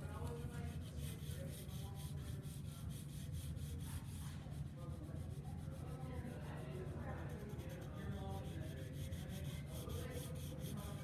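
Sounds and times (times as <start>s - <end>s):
pencil scratching on paper: 0.2s - 11.0s.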